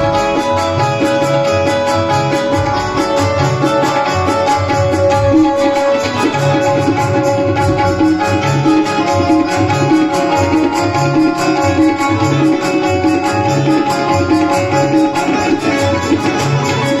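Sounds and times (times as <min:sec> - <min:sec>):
hand drums: 0:00.0 - 0:17.0
sustained melody instrument: 0:00.0 - 0:17.0.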